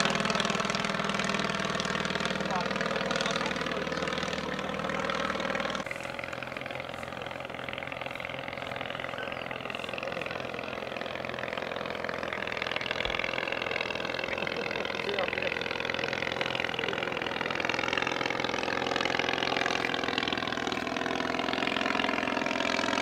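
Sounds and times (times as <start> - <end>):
small aircraft engine running: 0.0 - 23.0.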